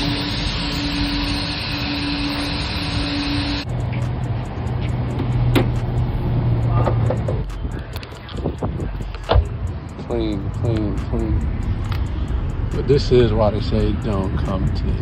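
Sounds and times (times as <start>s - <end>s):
machine hiss and hum: 0.0s - 15.0s.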